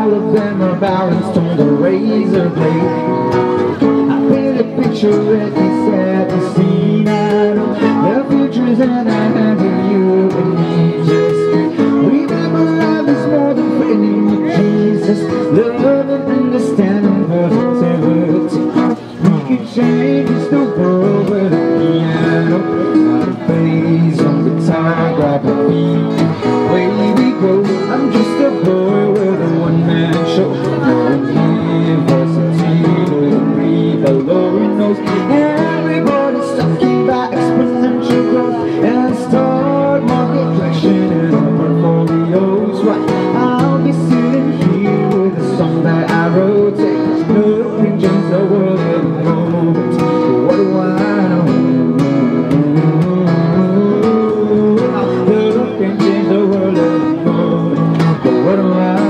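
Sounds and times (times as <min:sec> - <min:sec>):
acoustic guitar strumming: 0:00.0 - 0:59.0
man singing into microphone: 0:00.0 - 0:59.0.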